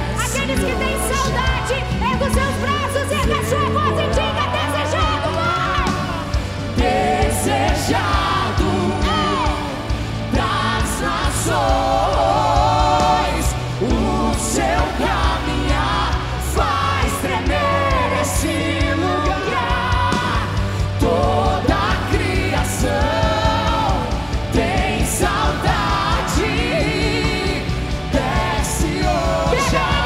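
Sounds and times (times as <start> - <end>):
live band playing: 0.0 - 30.0
people singing: 0.0 - 30.0.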